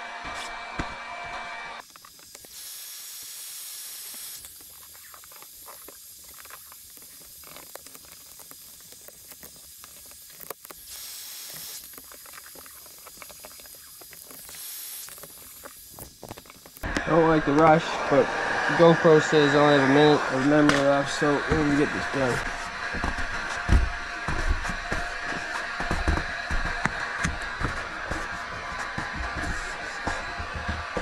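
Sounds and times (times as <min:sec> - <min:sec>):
heat gun blowing: 0:00.3 - 0:31.0
vinyl film crackling: 0:01.8 - 0:17.8, 0:21.4 - 0:31.0.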